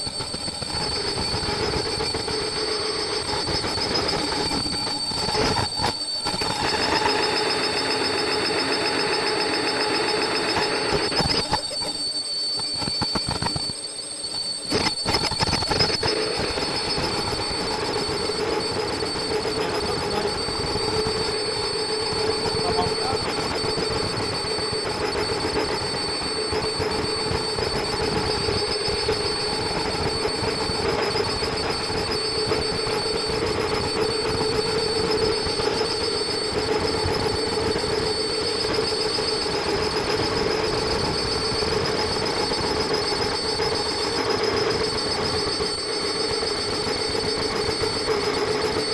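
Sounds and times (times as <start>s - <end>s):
machine hum: 0.0s - 14.0s, 14.7s - 48.9s
high-pitched machine whines: 0.0s - 48.9s.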